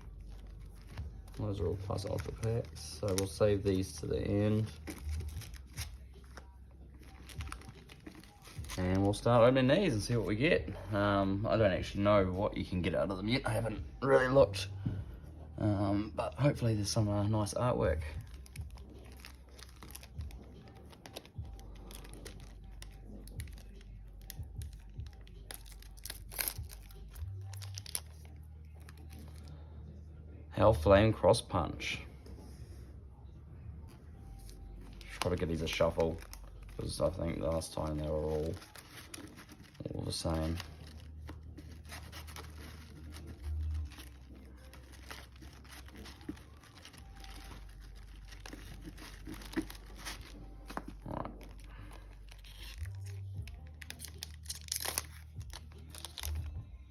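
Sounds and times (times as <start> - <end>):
foil pack crinkling and tearing: 0.0 - 10.5, 16.2 - 29.6, 34.3 - 56.9
cards and wrappers rustling: 0.0 - 29.7, 33.9 - 56.9
low steady hum: 0.0 - 56.9.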